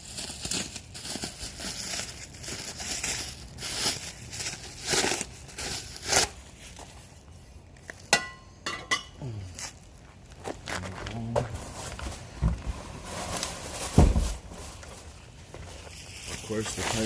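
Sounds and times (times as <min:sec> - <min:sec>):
packaging crinkling: 0:00.0 - 0:08.1, 0:09.7 - 0:17.0.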